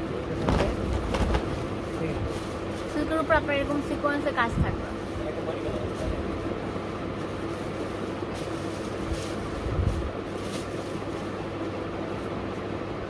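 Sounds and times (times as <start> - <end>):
background hum: 0.0 - 13.0
fabric rustling: 0.3 - 3.9, 4.9 - 12.4.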